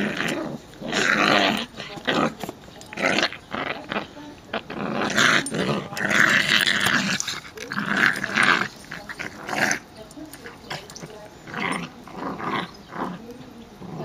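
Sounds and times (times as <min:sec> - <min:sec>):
dogs growling while play-fighting: 0:00.0 - 0:14.0.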